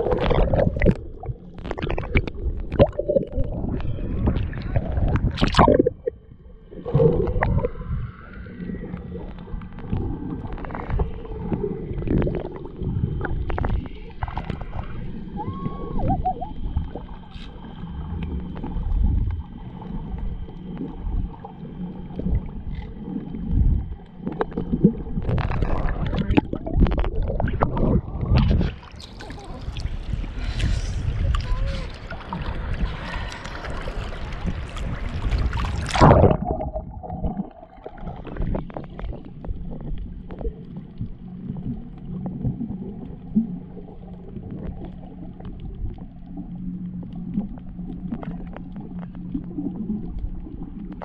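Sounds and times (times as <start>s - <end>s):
water splashing: 0.0s - 7.9s, 8.8s - 46.6s
bubbling and gurgling: 0.0s - 51.0s
muffled underwater rumbling: 0.0s - 51.0s.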